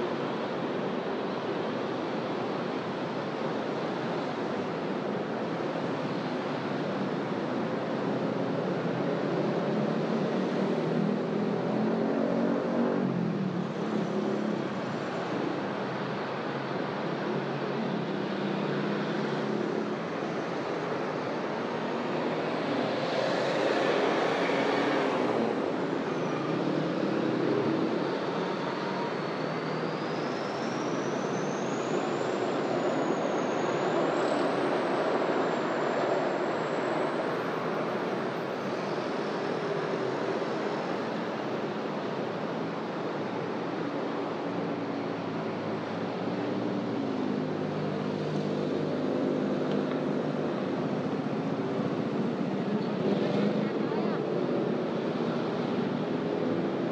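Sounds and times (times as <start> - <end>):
vehicles passing: 7.9 - 56.9.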